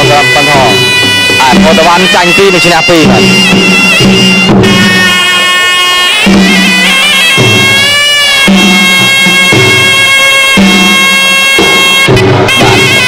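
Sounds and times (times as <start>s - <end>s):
drum beats: 0.0s - 13.0s
shrill reed oboe melody: 0.0s - 13.0s.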